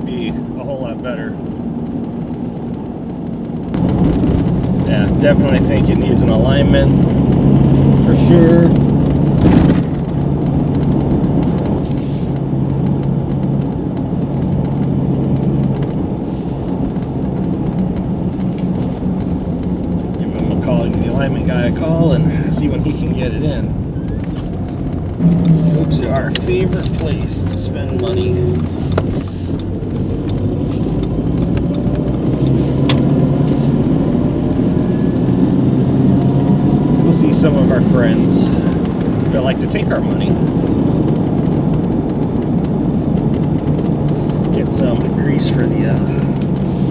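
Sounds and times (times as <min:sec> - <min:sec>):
car engine drone: 0:00.0 - 0:46.9
road and tyre noise: 0:00.0 - 0:46.9.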